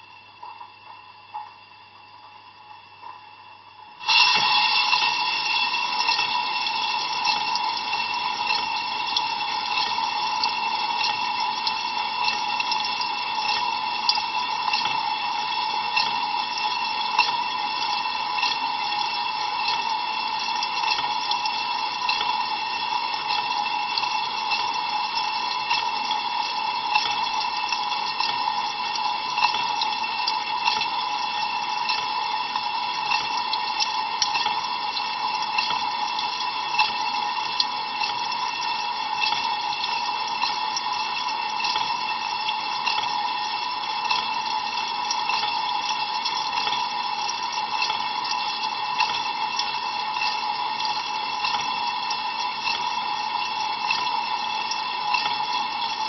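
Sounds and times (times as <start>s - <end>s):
water splashing inside dishwasher: 4.0s - 56.0s
water splatter ticks: 6.0s - 56.0s.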